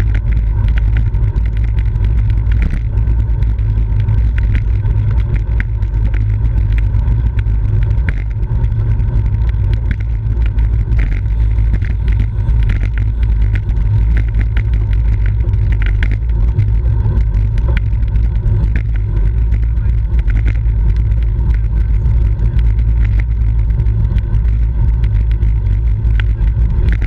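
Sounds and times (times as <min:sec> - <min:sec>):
short clicks and rattles: 0:00.0 - 0:27.0.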